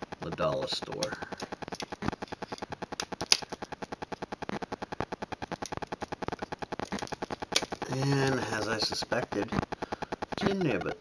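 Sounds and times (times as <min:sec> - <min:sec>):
fast even ticking: 0:00.0 - 0:11.0.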